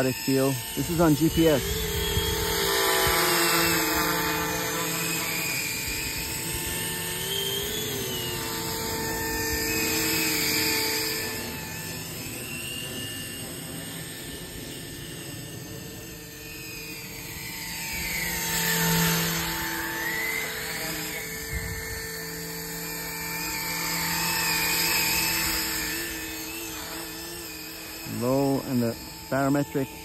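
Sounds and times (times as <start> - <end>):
rc helicopter motor whine: 0.0 - 30.0.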